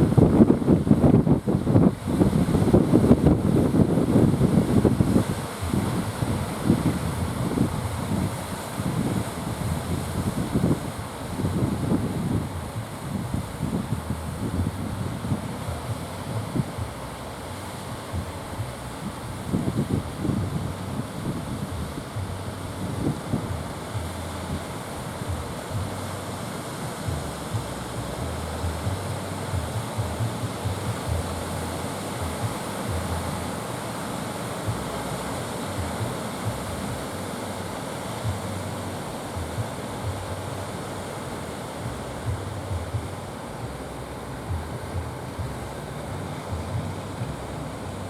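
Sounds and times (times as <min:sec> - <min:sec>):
sea surf breaking: 0:00.0 - 0:48.0
wind buffeting microphone: 0:00.0 - 0:48.0.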